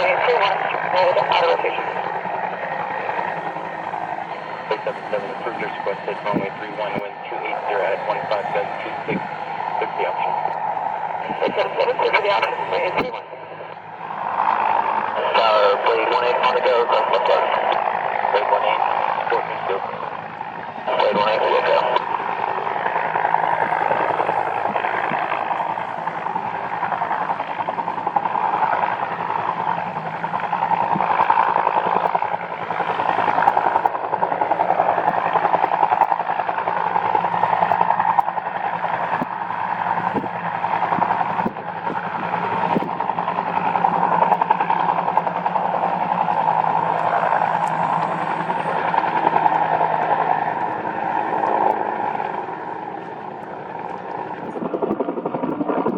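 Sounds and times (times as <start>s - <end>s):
helicopter flying near: 0.0s - 55.9s.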